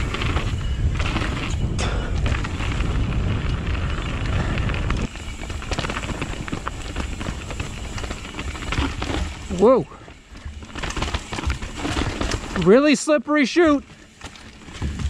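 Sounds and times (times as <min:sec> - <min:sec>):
wind buffeting microphone: 0:00.0 - 0:12.5
bike clicks and rattles: 0:00.0 - 0:15.0
tyres rumbling over dirt: 0:00.0 - 0:15.0.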